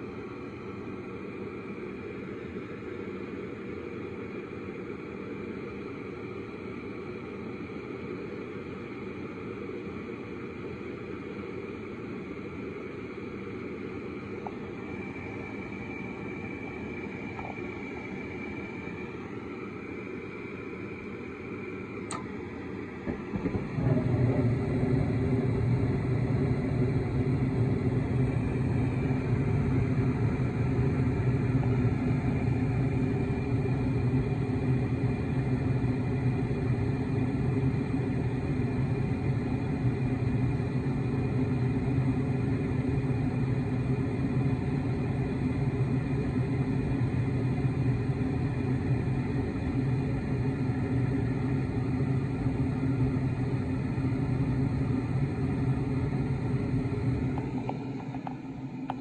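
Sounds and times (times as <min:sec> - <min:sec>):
gas furnace burners running: 0:00.0 - 0:59.0.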